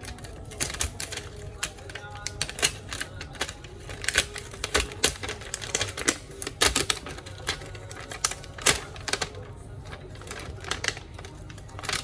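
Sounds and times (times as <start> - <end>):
tools clicking on laptop parts: 0.0 - 9.4, 10.2 - 12.0.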